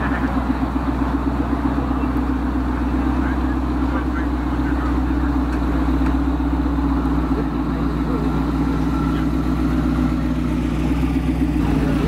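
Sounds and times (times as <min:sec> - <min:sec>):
car engine running slowly: 0:00.0 - 0:12.0.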